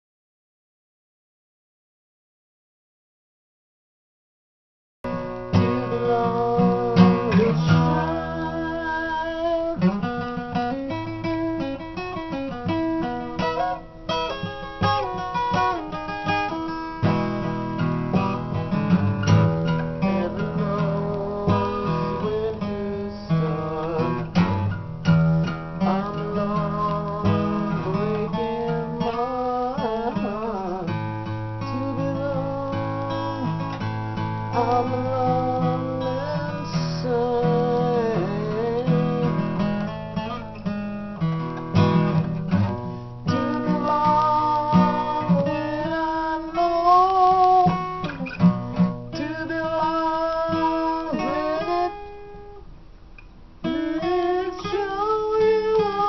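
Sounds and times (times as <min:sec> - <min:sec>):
acoustic guitar playing blues chords: 0:05.0 - 0:56.0.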